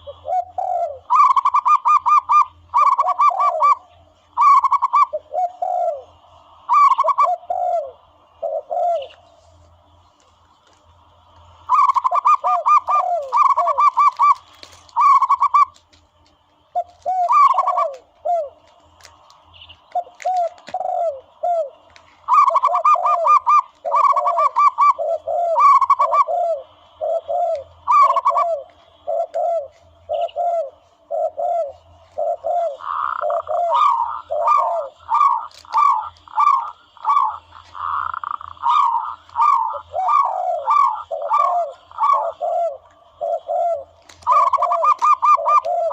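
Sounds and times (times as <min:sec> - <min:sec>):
low falling dove coos: 0:00.0 - 0:09.3, 0:11.3 - 0:15.9, 0:16.8 - 0:19.2, 0:19.8 - 0:45.9.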